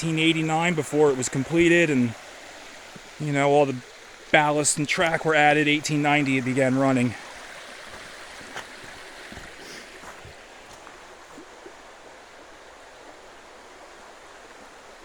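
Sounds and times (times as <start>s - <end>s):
small stream rushing: 0.0s - 15.0s.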